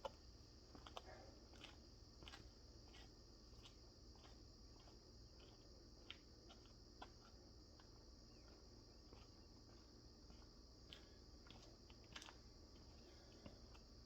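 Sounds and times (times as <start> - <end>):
cricket chirring: 0.0 - 14.0.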